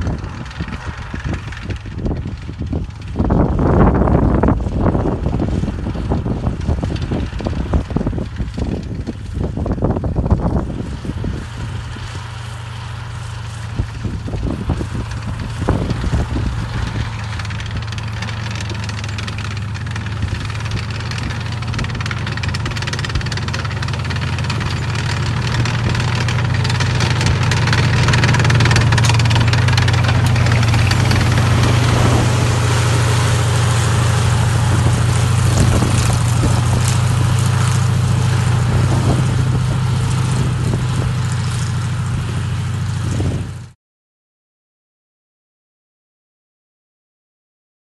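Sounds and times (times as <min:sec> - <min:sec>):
tracked vehicle engine droning: 0:00.0 - 0:43.8.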